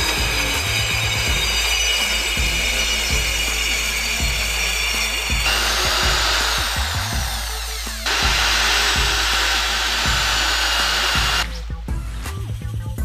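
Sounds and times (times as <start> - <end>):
electric drill boring into chipboard: 0.0 - 11.6
background music with steady beat: 0.0 - 13.0.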